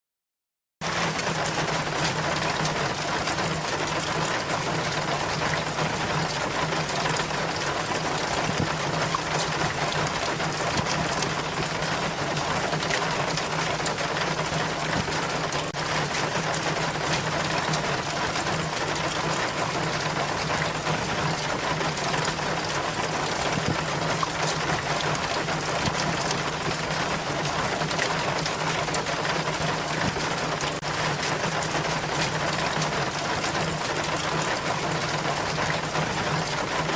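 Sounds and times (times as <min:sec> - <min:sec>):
water trickling down a rain chain: 0:00.9 - 0:36.9.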